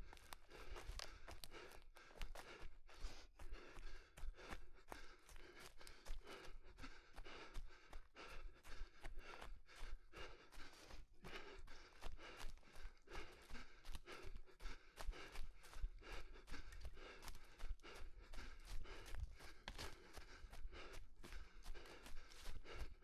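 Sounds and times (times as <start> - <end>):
footsteps in forest: 0.0 - 23.0
runner breathing: 0.0 - 23.0.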